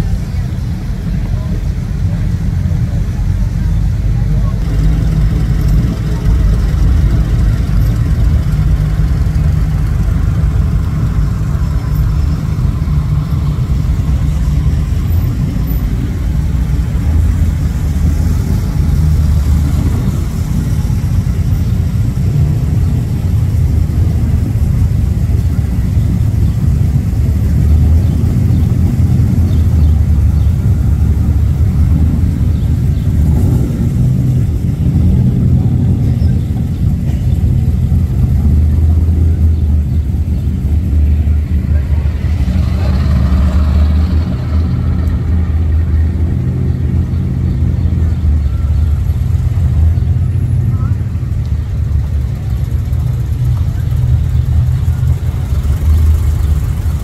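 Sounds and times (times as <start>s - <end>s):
car and truck engines rumbling: 0.0s - 57.0s.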